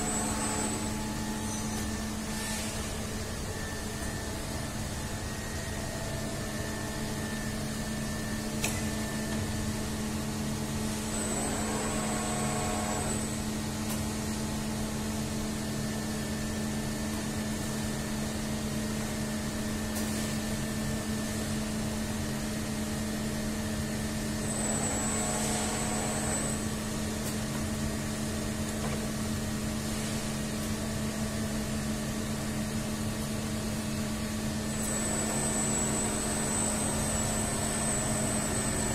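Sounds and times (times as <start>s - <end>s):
machine electrical hum: 0.0s - 38.9s
machine whirring with high whine: 0.0s - 38.9s.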